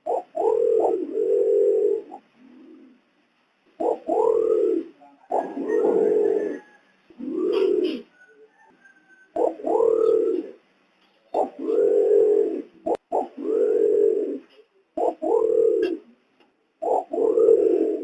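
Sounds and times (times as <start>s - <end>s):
pigeon cooing: 0.0s - 3.1s, 3.8s - 10.6s, 11.3s - 16.2s, 16.8s - 18.0s.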